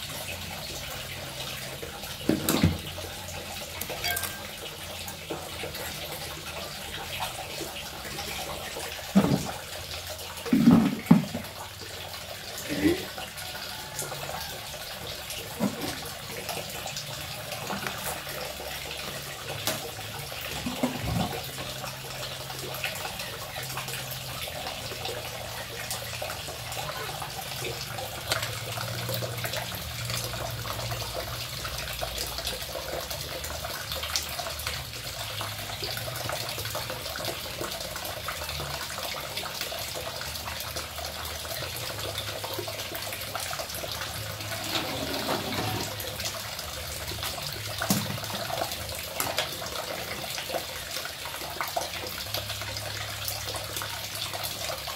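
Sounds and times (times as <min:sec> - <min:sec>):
water running: 0:00.0 - 0:54.9.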